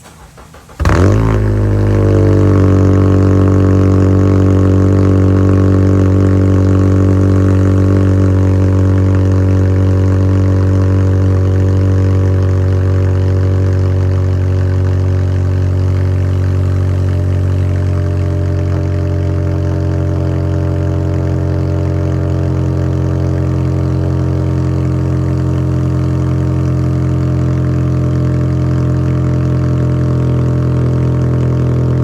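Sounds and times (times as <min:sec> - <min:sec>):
car engine idling loudly: 0:00.0 - 0:32.0.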